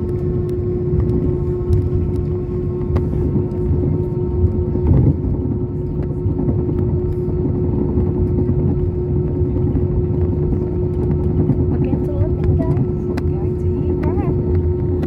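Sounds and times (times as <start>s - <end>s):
low rumble of engines and wheels: 0.0s - 15.0s
steady hum-like tone: 0.0s - 15.0s.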